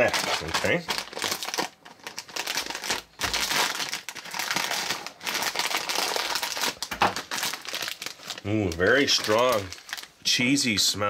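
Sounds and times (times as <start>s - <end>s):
snack bag crinkling: 0.0s - 10.2s.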